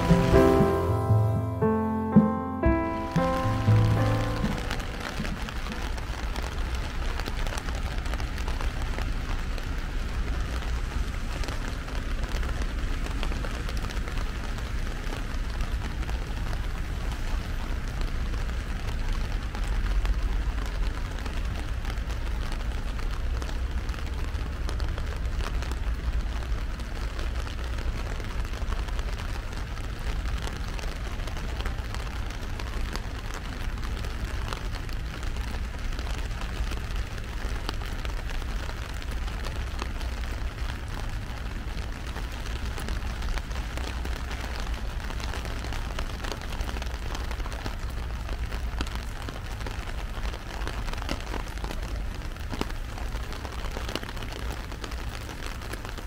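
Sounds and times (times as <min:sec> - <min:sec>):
heavy rain on an umbrella: 0:00.0 - 0:01.1, 0:02.7 - 0:56.0.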